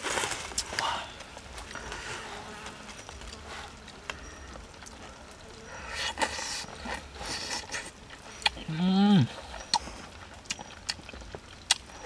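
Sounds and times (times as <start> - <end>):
slurping and chewing: 1.4 - 12.0.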